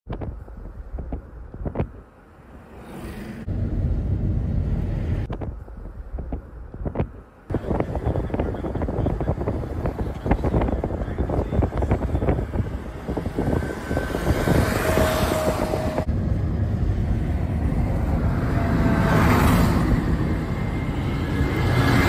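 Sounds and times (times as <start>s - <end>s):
wind buffeting microphone: 0.1s - 2.0s, 3.4s - 22.0s
moving car rumble: 0.1s - 22.0s.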